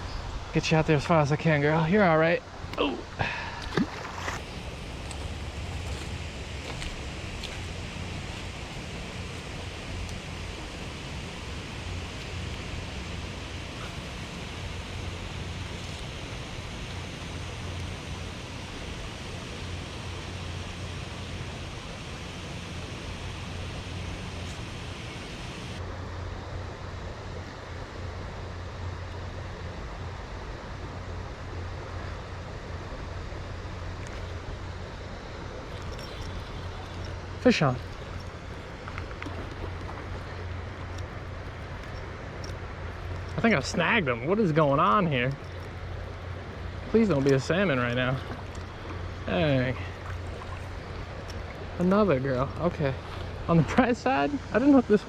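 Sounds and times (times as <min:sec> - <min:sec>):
river water rushing: 0:01.1 - 0:25.8, 0:33.6 - 0:55.0.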